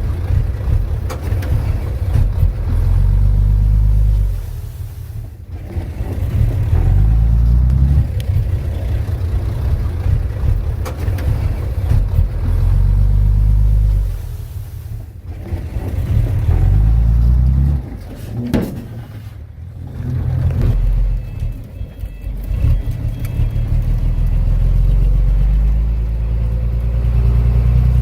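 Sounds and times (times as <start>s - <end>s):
bulldozer diesel engine under load: 0.0s - 28.0s.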